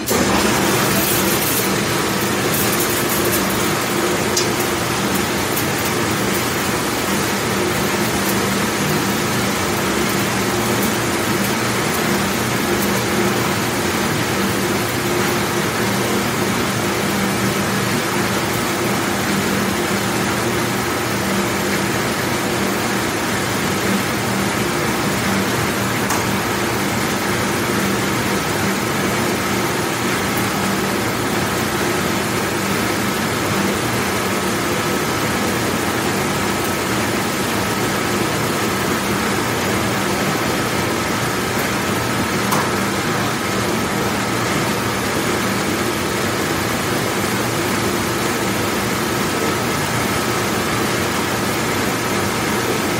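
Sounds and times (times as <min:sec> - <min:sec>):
dishwashing machine rushing noise: 0:00.0 - 0:52.9.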